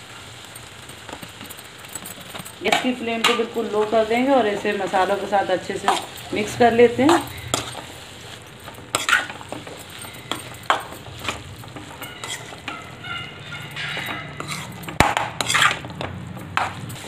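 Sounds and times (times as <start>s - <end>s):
light sizzle of frying: 0.0s - 17.0s
metal spatula scraping a pan: 1.3s - 17.0s.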